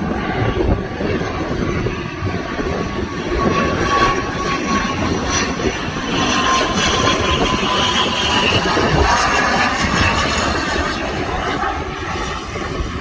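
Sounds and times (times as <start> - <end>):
airliner engines whining: 0.0 - 13.0.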